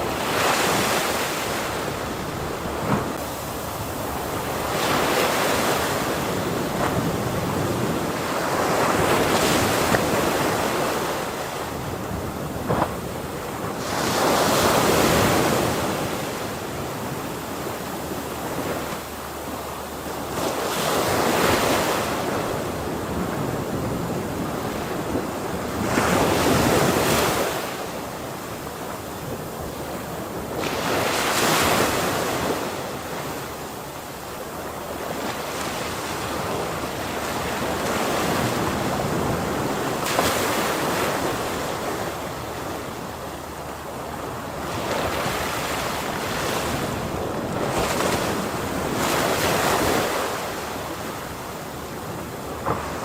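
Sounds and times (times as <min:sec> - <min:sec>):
ocean surf breaking: 0:00.0 - 0:19.0, 0:20.2 - 0:53.0.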